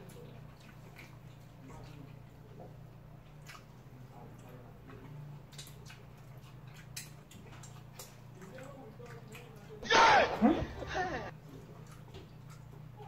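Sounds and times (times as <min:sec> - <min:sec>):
lip smacks and chewing: 0:00.0 - 0:09.9, 0:11.1 - 0:13.0
faint low hum: 0:00.0 - 0:13.0.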